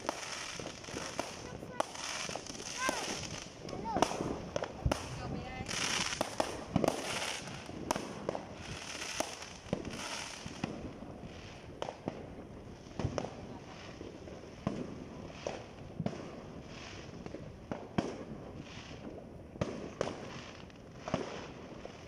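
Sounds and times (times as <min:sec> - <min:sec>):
distant fireworks bangs: 0:00.0 - 0:22.0
hissing crackle: 0:00.0 - 0:22.0.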